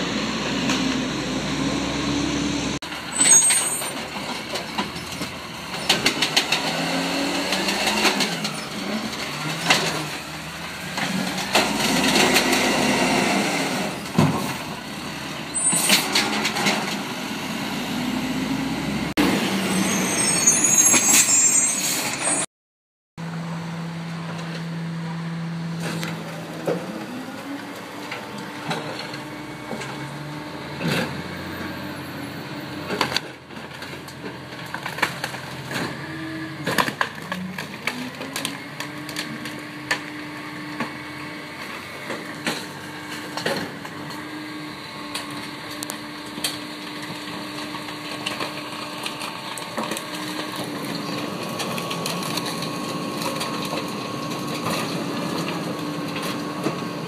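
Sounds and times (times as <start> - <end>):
garbage truck engine revving: 0.0 - 22.4, 23.4 - 57.0.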